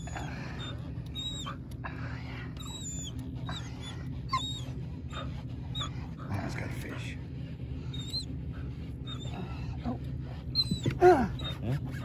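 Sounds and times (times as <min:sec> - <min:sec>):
dog whining: 0:00.0 - 0:01.7, 0:02.5 - 0:06.3, 0:07.9 - 0:12.0
steady low hum: 0:00.0 - 0:12.0.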